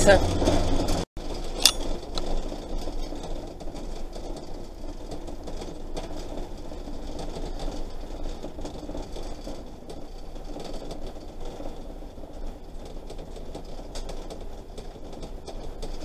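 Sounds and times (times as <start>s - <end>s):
engine and tyres on dirt road: 0.0s - 16.0s.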